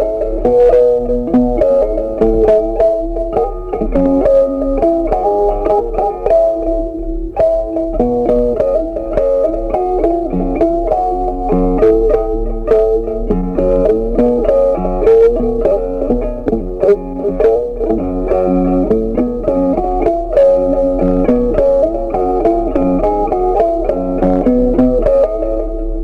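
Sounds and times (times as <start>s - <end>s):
plucked guitar melody: 0.0s - 26.0s
steady bass: 0.0s - 26.0s.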